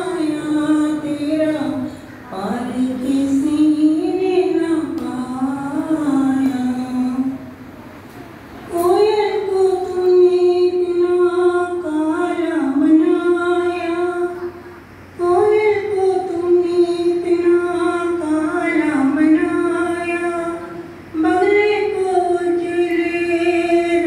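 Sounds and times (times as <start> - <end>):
woman singing: 0.0 - 7.4, 8.7 - 14.6, 15.2 - 24.0.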